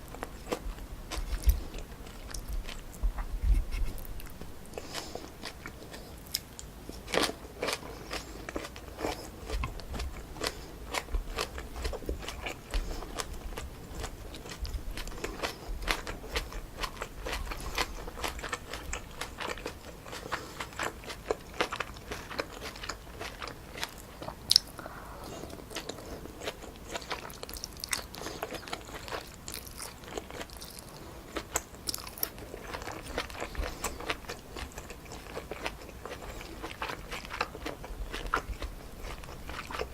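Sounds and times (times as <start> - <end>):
close chewing and mouth sounds: 0.0 - 39.9.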